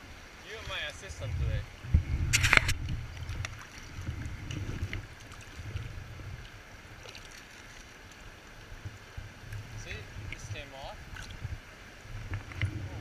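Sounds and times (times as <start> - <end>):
faint water splashes: 0.0 - 13.0.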